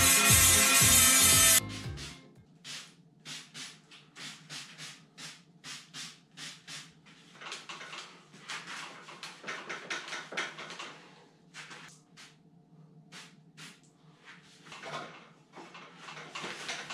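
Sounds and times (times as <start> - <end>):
hand rubbing bicycle frame: 0.0 - 12.4, 13.1 - 16.9.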